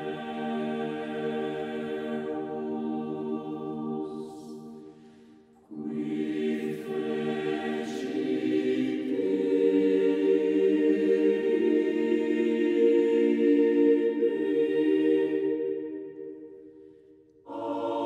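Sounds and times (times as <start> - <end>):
choir singing sustained chords: 0.0 - 18.0.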